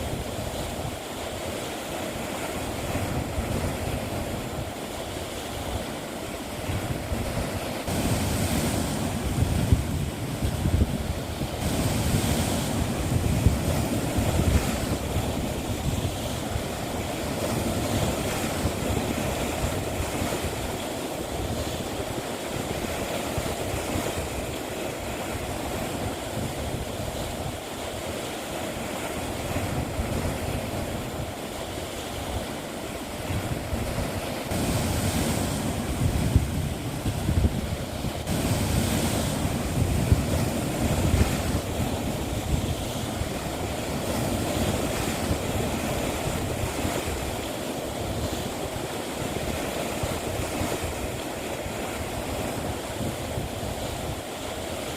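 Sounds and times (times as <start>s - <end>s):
sea waves washing on shore: 0.0s - 54.9s.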